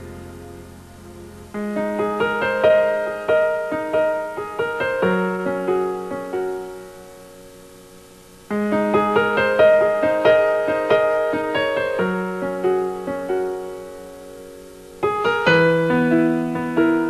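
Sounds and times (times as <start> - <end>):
solo piano slow melody: 0.0 - 17.0.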